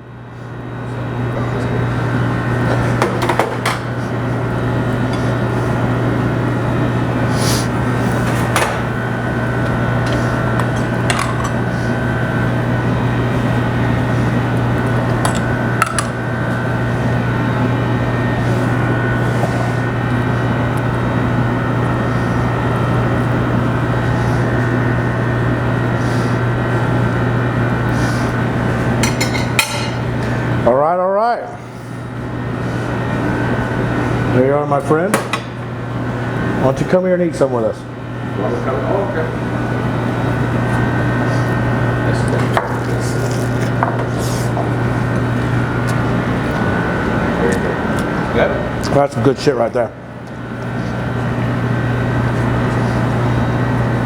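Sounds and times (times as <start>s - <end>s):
loud mechanical hum: 0.0s - 54.0s.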